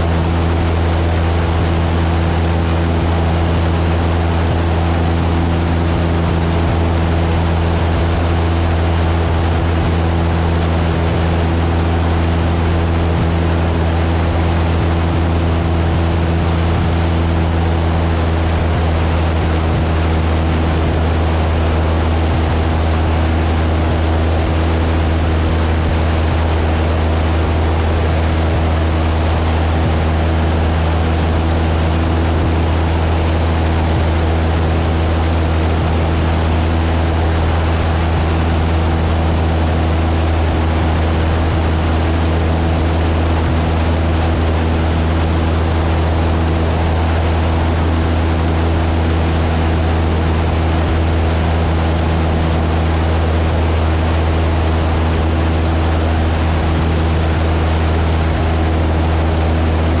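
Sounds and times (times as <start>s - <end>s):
propeller plane engine droning: 0.0s - 60.0s.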